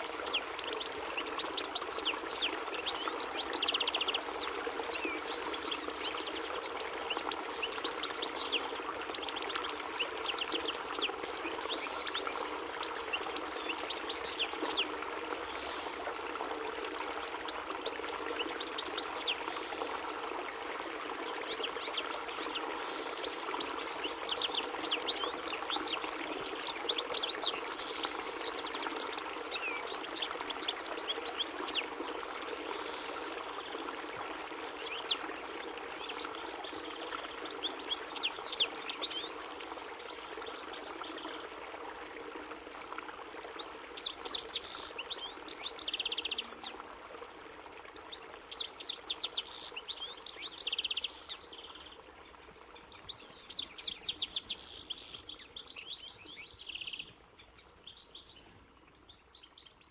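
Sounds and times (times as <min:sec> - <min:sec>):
goldfinch twittering and trilling: 0:00.0 - 0:14.9, 0:17.9 - 0:19.9, 0:21.4 - 0:32.0, 0:34.6 - 0:41.4, 0:43.4 - 0:46.8, 0:48.0 - 0:59.9.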